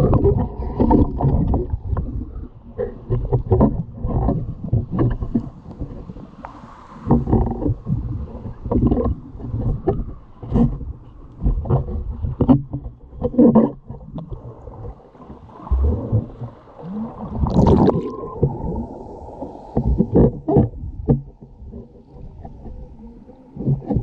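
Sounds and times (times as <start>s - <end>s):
underwater rumbling and sloshing: 0.0s - 24.0s.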